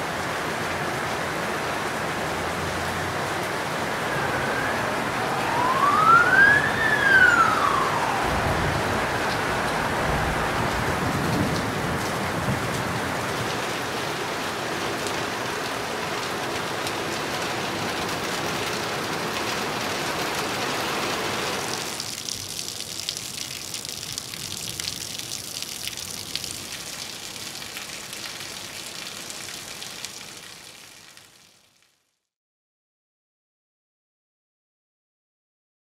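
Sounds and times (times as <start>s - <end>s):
heavy rain splashing: 0.0s - 32.0s.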